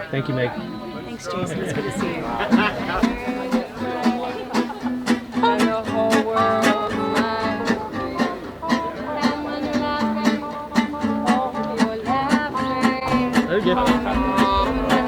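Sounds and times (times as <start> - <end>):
bluegrass music banjo and guitar: 0.0 - 15.0.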